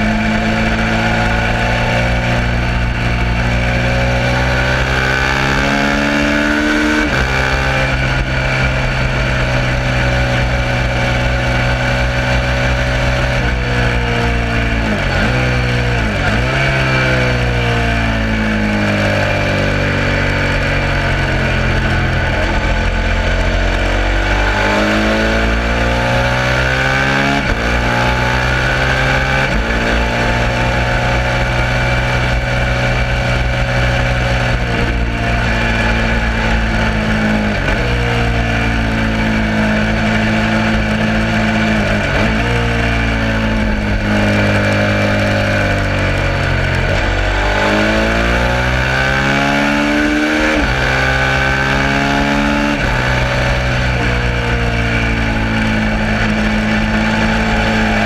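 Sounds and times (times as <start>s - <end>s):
motorcycle engine revving: 0.0s - 58.0s
steady rush of noise: 0.0s - 58.0s.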